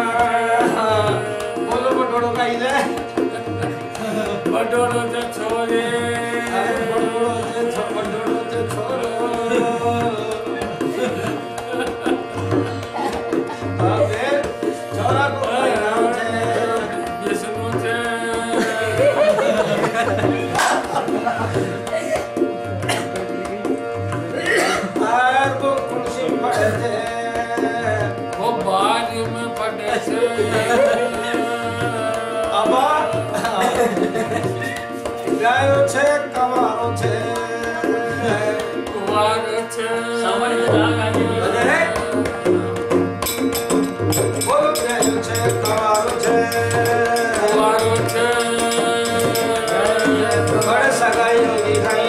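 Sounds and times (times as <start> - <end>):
hand drum beat: 0.0 - 39.6, 40.7 - 52.0
keyboard chords: 0.0 - 52.0
person singing: 3.3 - 22.3, 25.9 - 35.1, 36.3 - 52.0.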